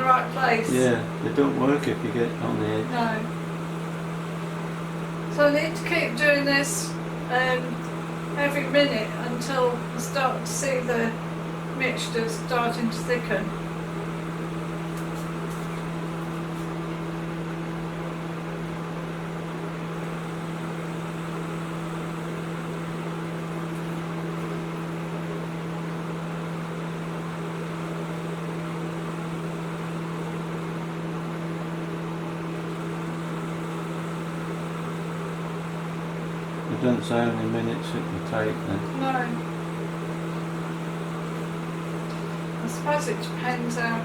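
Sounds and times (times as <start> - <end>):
microwave oven humming: 0.0 - 44.0.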